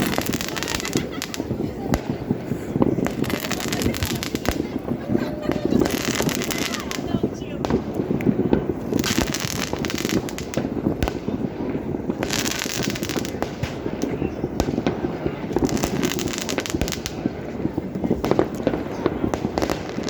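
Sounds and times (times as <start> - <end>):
fireworks crackle: 0.0 - 20.0
fireworks shells bursting: 0.0 - 20.0.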